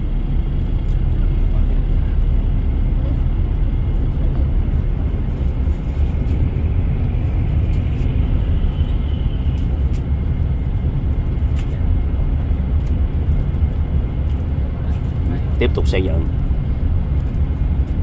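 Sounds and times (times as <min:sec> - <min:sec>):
van engine and tyres rumbling: 0:00.0 - 0:18.0.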